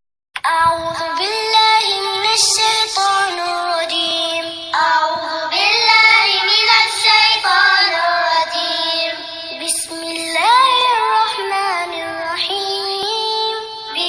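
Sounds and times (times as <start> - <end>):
person chanting melodically: 0.4 - 14.0.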